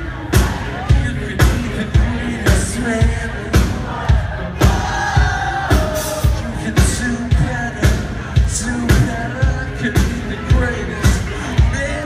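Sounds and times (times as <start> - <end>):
drums keeping a steady beat: 0.0 - 12.0
man singing into a microphone: 0.0 - 12.0.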